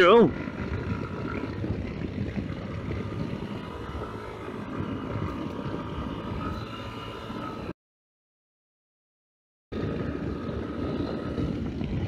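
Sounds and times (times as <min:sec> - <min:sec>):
wind rush: 0:00.0 - 0:07.7, 0:09.7 - 0:12.0
motorcycle engine cruising: 0:00.0 - 0:07.8, 0:09.7 - 0:12.0.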